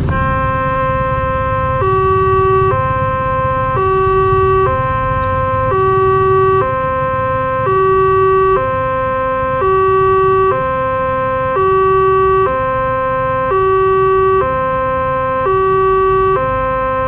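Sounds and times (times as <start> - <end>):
two-tone crossing alarm: 0.0 - 17.0.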